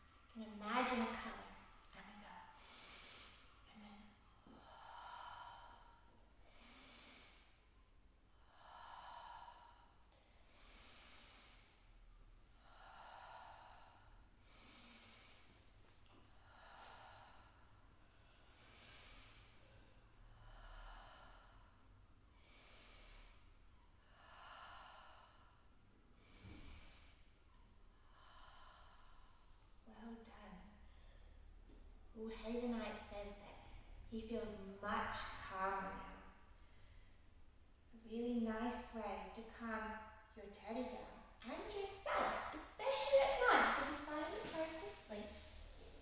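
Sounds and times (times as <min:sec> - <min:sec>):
woman breathing slowly: 0:00.0 - 0:38.0, 0:38.9 - 0:46.0.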